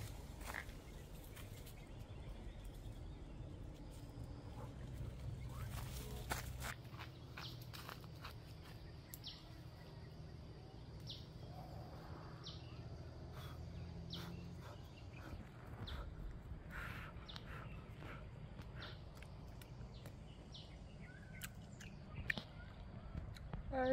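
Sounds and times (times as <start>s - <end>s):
low outdoor rumble: 0.0s - 23.9s.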